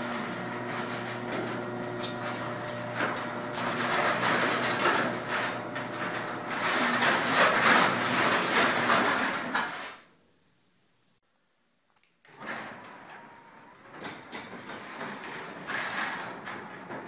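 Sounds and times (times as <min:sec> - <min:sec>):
garage door opener motor: 0:00.0 - 0:10.1, 0:12.3 - 0:17.0
garage door rattling: 0:00.0 - 0:10.1, 0:12.4 - 0:17.0.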